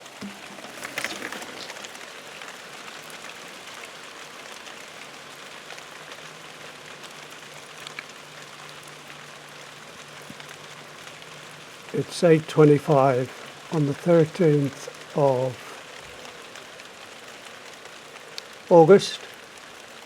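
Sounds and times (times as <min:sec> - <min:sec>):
light rain hissing: 0:00.0 - 0:20.0
raindrops ticking: 0:00.0 - 0:20.0.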